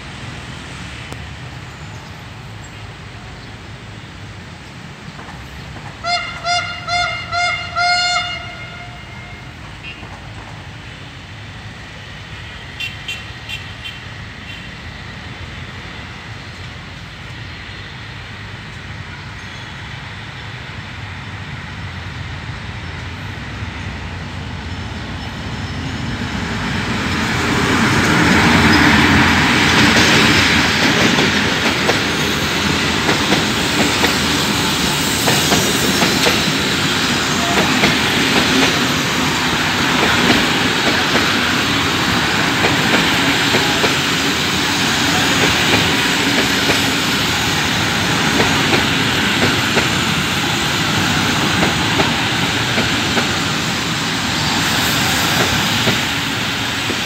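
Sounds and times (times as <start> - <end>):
passenger train passing: 0.0 - 57.0.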